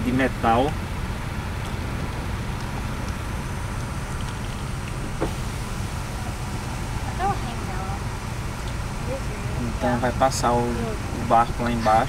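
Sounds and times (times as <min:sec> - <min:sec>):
car idling: 0:00.0 - 0:12.0.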